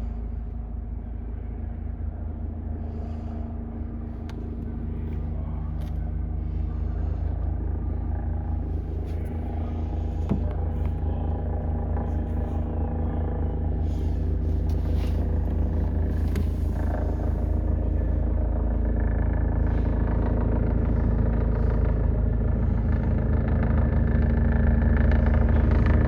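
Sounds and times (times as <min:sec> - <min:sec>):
helicopter rotor and engine: 0:00.0 - 0:26.0.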